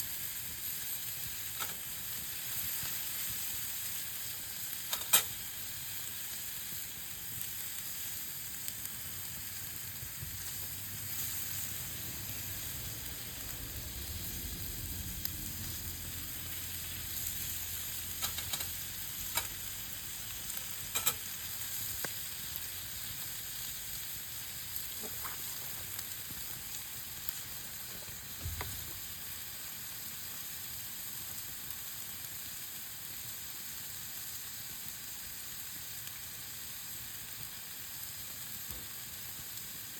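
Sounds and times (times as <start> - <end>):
meat sizzling: 0.0 - 39.9.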